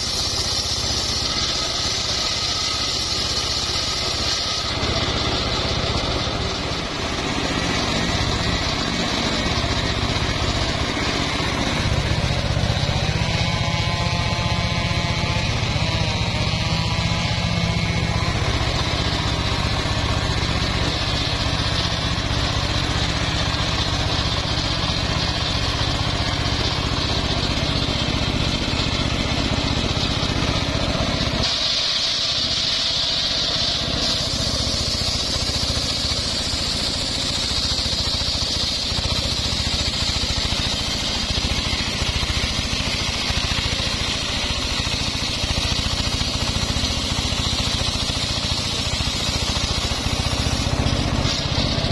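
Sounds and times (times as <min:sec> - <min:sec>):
engine drone: 0:00.0 - 0:51.9
saw blade cutting whine: 0:00.0 - 0:51.9.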